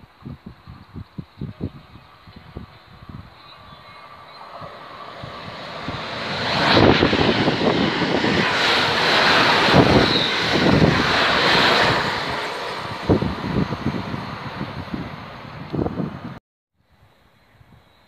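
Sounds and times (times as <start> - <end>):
rush of air from passing train: 0.0 - 16.4.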